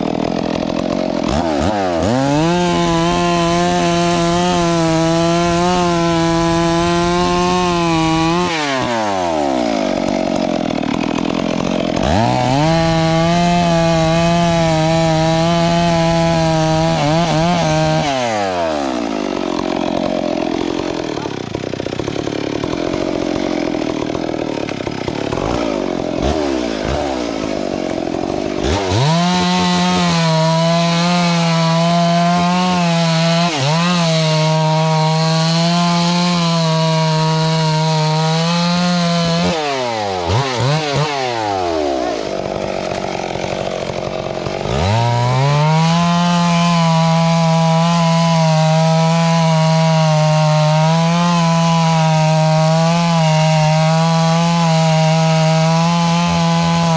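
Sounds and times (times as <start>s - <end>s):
chainsaw cutting wood: 0.0s - 56.9s
chainsaw idling and revving: 0.0s - 56.9s.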